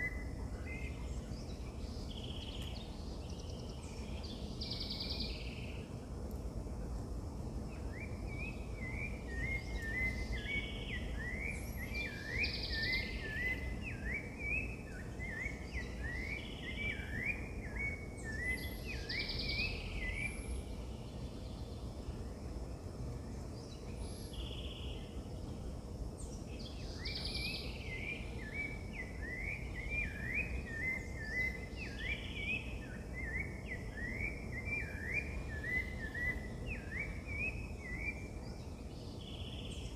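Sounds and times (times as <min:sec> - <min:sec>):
birds twittering: 0:00.0 - 0:06.1, 0:07.4 - 0:39.9.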